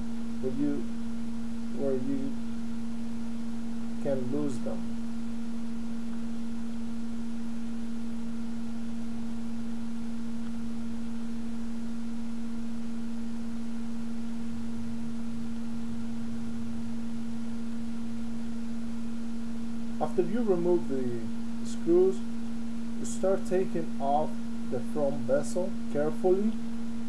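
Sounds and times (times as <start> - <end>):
steady low electrical hum: 0.0 - 27.0.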